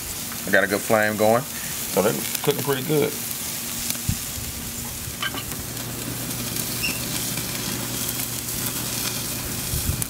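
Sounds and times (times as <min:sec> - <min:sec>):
steaks sizzling on a grill: 0:00.0 - 0:10.0.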